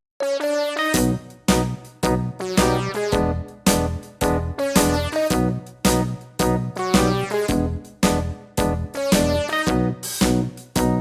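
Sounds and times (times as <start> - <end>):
bouncy keyboard music: 0.2 - 11.0.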